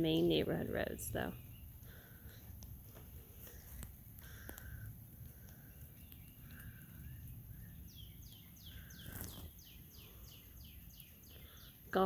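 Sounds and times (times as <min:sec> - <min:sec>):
songbird calling: 0:00.0 - 0:02.6, 0:03.2 - 0:12.0
low outdoor rumble: 0:00.0 - 0:12.0.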